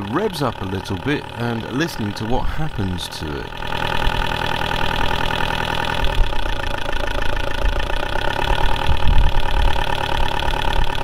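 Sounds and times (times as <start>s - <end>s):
diesel engine running: 0.0s - 11.0s
fuel pump tapping: 0.0s - 11.0s.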